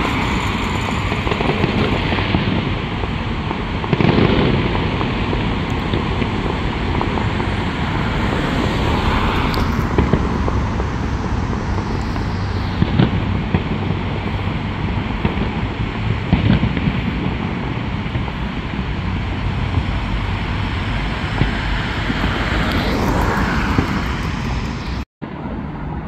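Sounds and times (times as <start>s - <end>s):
close firework cracks: 0.0s - 25.0s
distant fireworks rumble: 0.0s - 26.0s.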